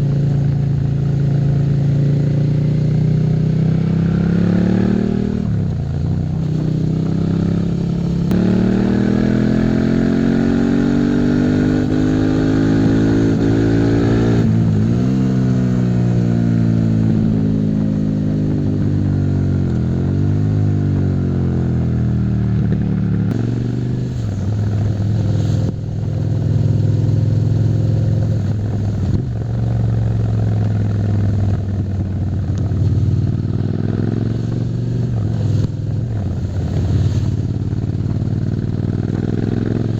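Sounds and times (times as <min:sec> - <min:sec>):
motorcycle engine accelerating: 0:00.0 - 0:39.9
wind and road hiss: 0:00.0 - 0:39.9.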